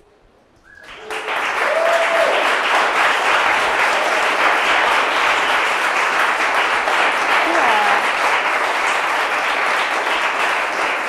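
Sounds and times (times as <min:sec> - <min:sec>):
audience applauding: 0:00.7 - 0:11.0.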